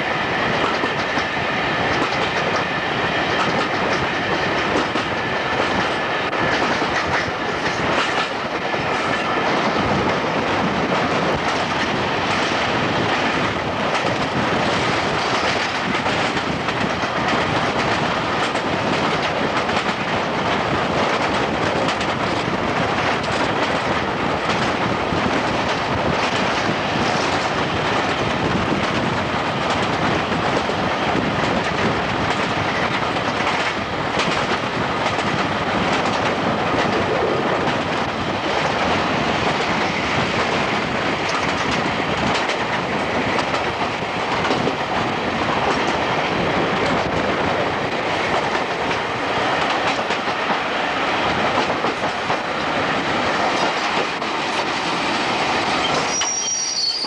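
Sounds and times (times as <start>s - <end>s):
train running at speed: 0.0s - 57.0s.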